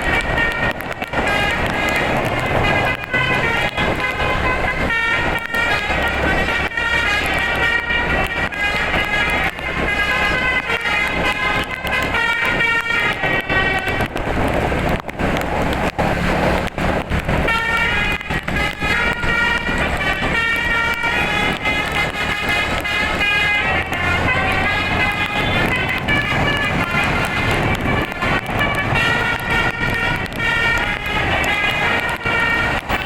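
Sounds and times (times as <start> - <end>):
multi-tone air horn tune: 0.0 - 14.9, 17.4 - 33.0.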